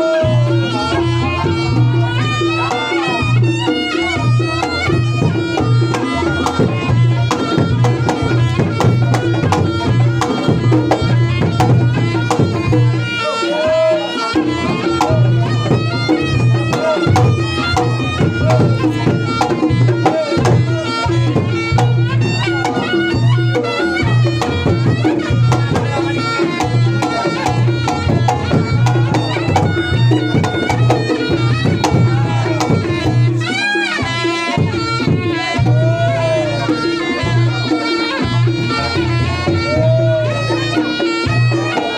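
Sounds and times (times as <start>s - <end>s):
drum strokes: 0.0s - 41.9s
reedy shawm melody: 0.0s - 41.9s.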